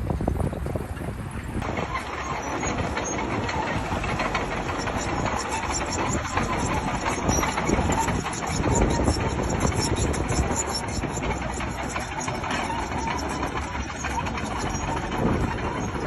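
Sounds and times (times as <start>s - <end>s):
heavy diesel machine clattering: 0.0s - 16.0s.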